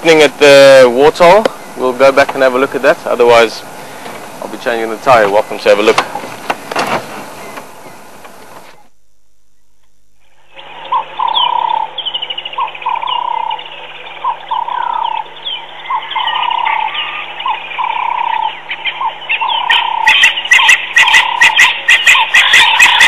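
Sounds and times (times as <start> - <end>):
birds calling and chirping: 0.0 - 8.9, 9.6 - 23.0.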